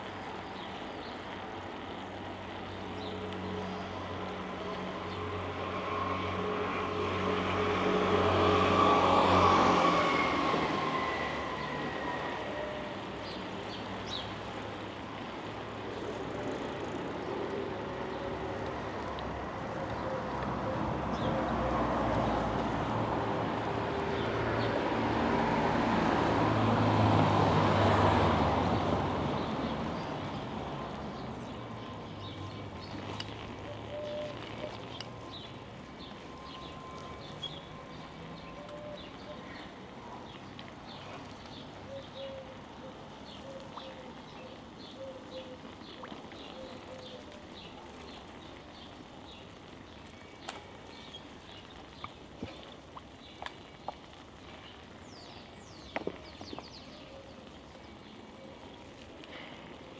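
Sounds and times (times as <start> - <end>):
motor vehicles passing: 0.0 - 59.9.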